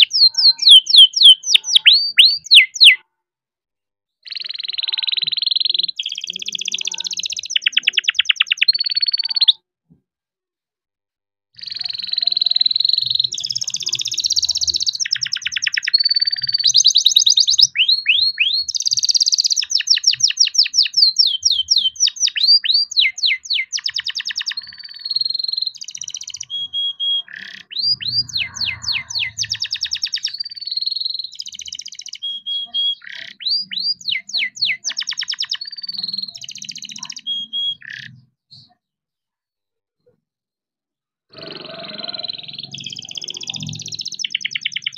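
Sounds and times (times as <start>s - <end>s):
canary singing: 0.0s - 3.1s, 4.2s - 9.6s, 11.6s - 38.8s, 41.3s - 44.9s.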